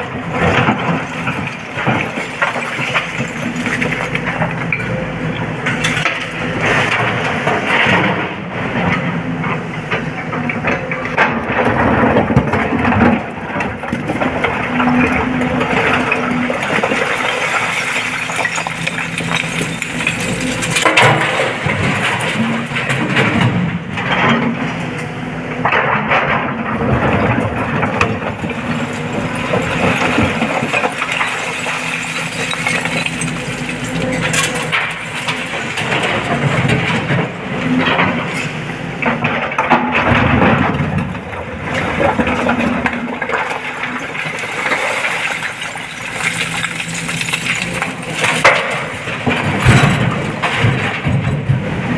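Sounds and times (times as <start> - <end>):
rock and steel bucket clanking: 0.0 - 9.0, 10.4 - 24.4, 25.7 - 51.9
excavator diesel engine running: 0.0 - 51.9.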